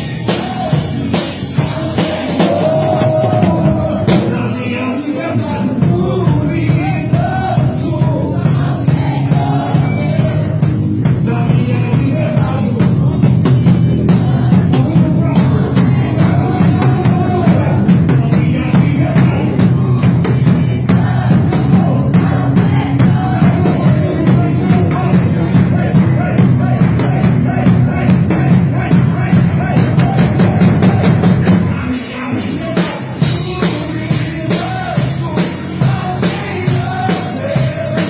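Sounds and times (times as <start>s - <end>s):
drum kit: 0.0s - 38.0s
people singing: 0.0s - 38.0s
worship band playing: 0.0s - 38.0s.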